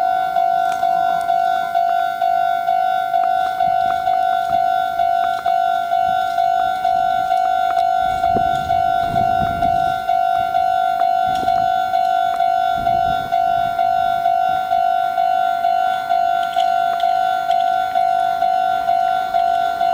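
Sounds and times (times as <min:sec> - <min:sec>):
level crossing bell ringing: 0:00.0 - 0:19.9
train wheels rumbling: 0:00.0 - 0:19.9.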